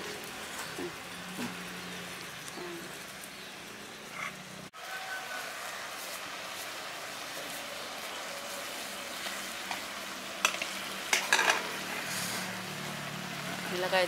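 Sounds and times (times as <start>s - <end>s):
meat sizzling in a clay pot: 0.0s - 14.0s.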